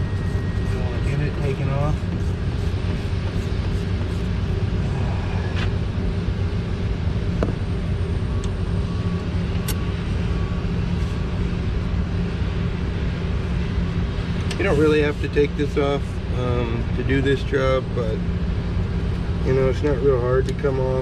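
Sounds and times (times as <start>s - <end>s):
low engine-like rumble: 0.0s - 21.0s.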